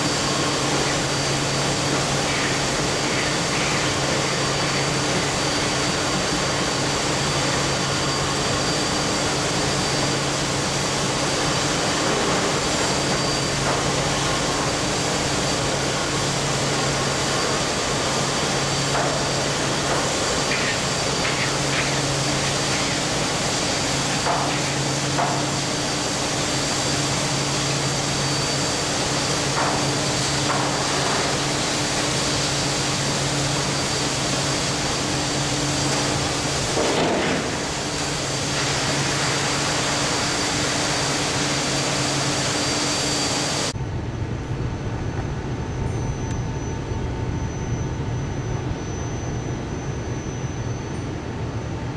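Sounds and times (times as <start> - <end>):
steelworks machinery roar: 0.0 - 51.9.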